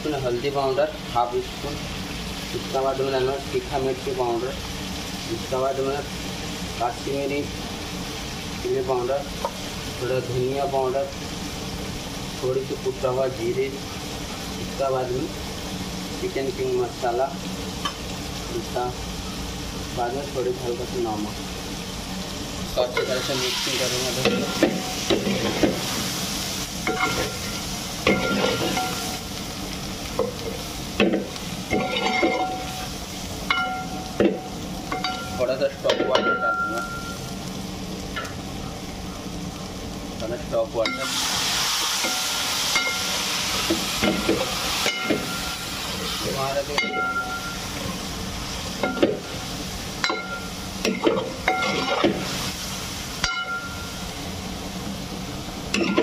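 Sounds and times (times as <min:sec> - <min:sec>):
chicken sizzling in oil: 0:00.0 - 0:56.0.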